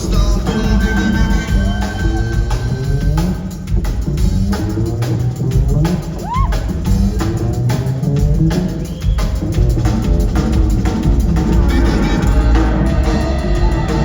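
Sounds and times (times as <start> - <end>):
bass line: 0.0 - 14.0
drum kit beat: 0.0 - 14.0
live rock band playing: 0.0 - 14.0.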